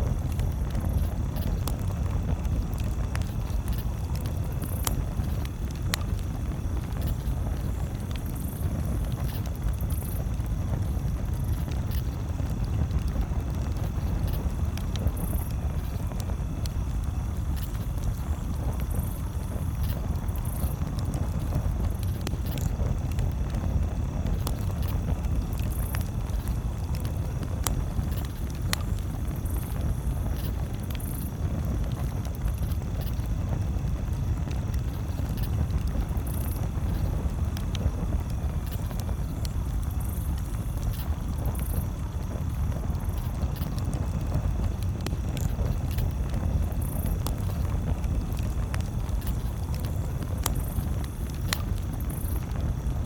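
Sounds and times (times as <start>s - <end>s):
campfire crackling and popping: 0.0s - 53.0s
steady low rumble: 0.0s - 53.0s.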